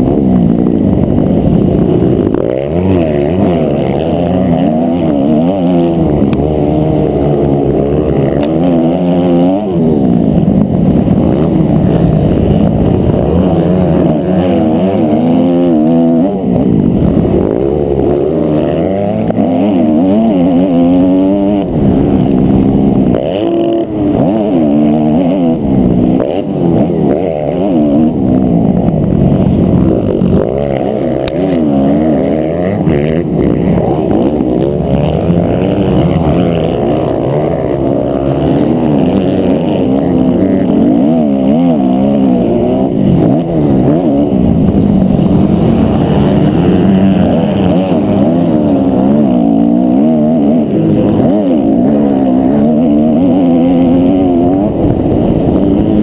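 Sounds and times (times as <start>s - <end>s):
motocross bike engine racing: 0.0s - 56.0s.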